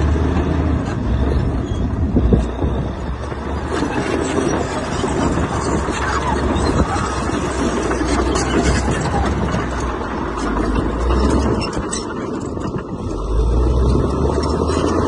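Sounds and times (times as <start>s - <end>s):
diesel engine of heavy machinery: 0.0s - 15.0s.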